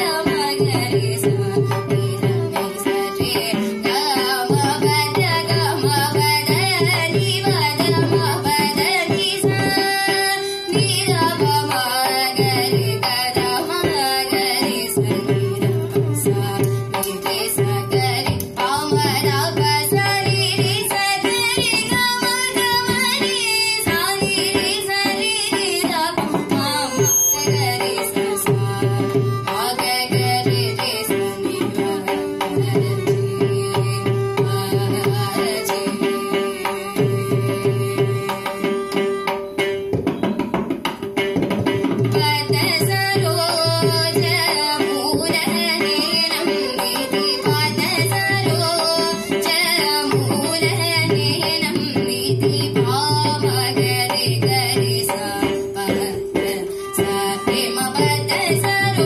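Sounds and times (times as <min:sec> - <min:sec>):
violin: 0:00.0 - 0:59.0.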